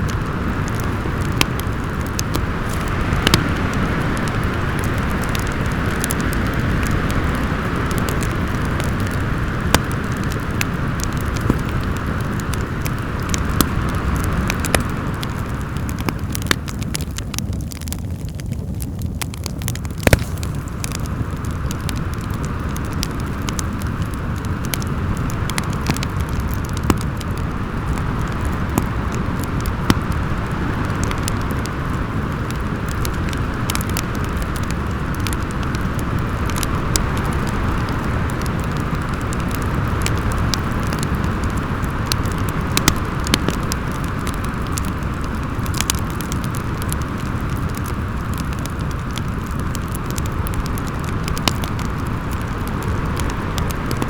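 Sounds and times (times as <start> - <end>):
fire crackling and popping: 0.0 - 54.0
howling wind: 0.0 - 54.0.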